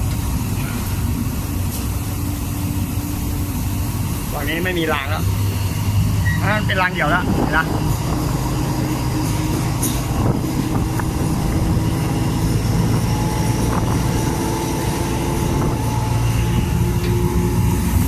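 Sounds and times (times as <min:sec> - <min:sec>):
steady train drone: 0:00.0 - 0:18.0
train wheels rumbling on rails: 0:00.0 - 0:18.0.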